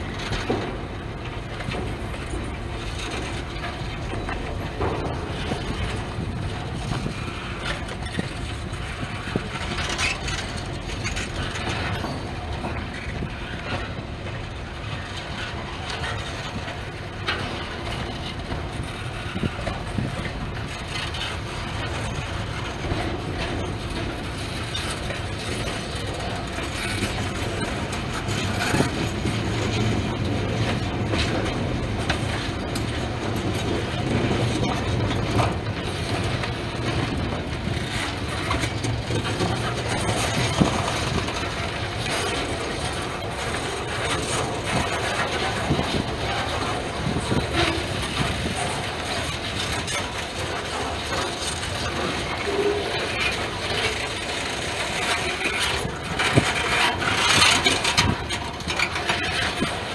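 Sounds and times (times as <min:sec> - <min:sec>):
train cars clanking: 0:00.0 - 0:59.9
train wheels rumbling on rail: 0:00.0 - 0:59.9.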